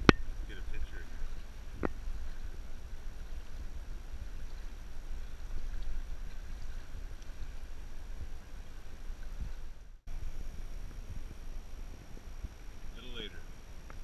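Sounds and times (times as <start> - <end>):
river flowing: 0.0 - 14.0
wind buffeting microphone: 0.0 - 14.0.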